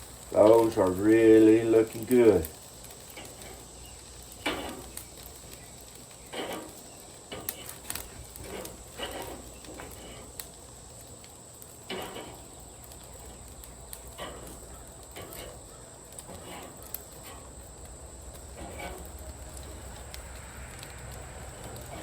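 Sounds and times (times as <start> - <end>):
chicken wings sizzling on grill: 0.0 - 22.0.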